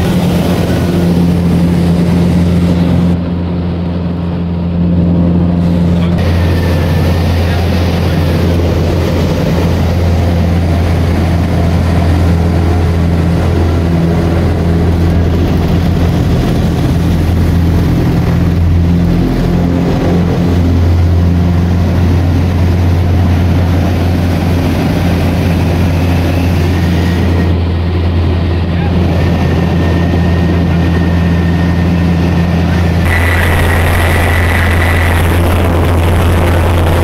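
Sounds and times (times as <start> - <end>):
propeller aircraft engine droning: 0.0 - 37.0.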